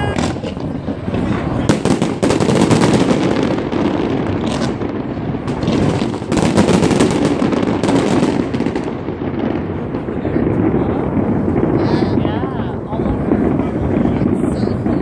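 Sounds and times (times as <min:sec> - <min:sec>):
fireworks bangs and crackling: 0:00.0 - 0:15.0
fireworks rumble: 0:00.0 - 0:15.0.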